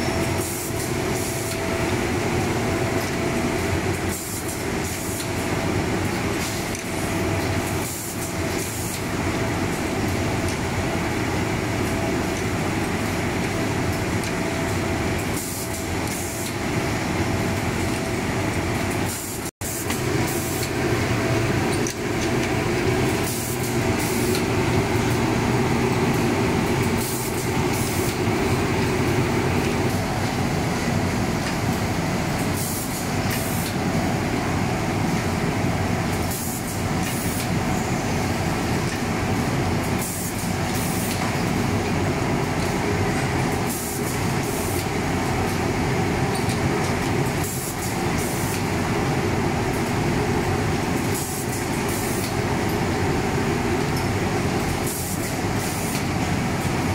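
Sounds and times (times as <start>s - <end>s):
sock boarding machine running: 0.0s - 56.9s.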